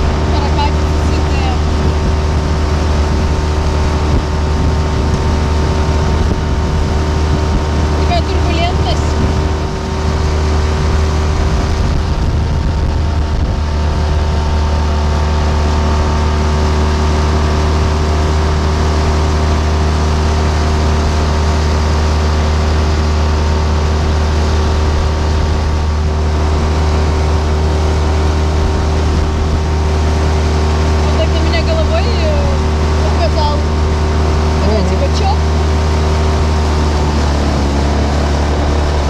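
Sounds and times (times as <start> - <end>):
outboard motor running: 0.0 - 39.0.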